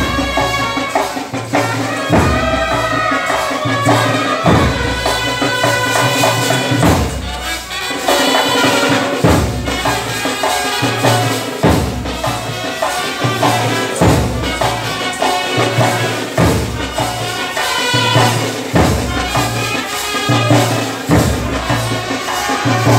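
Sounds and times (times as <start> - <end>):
heavy drum strokes: 0.0 - 22.9.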